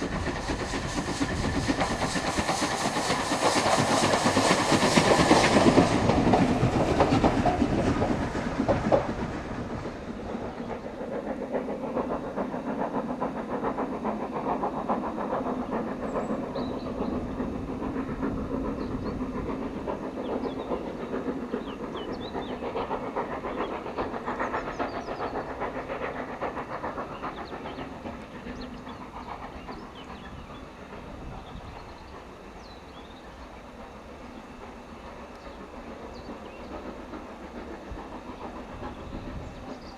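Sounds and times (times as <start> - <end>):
steam locomotive exhaust: 0.0 - 39.9.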